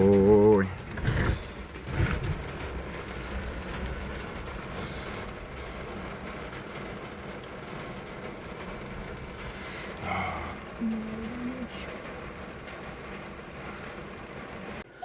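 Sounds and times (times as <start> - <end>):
car rumble inside cabin: 0.0 - 14.9.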